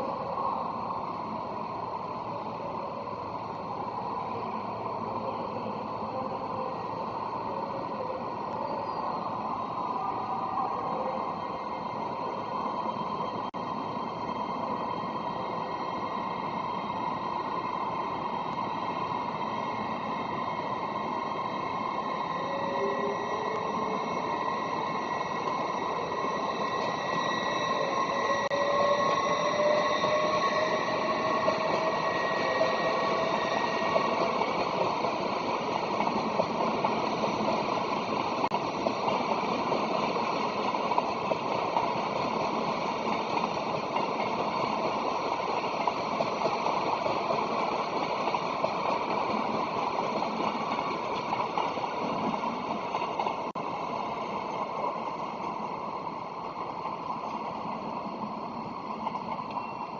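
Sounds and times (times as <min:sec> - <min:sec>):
distant train pulling away: 0:00.0 - 0:59.9.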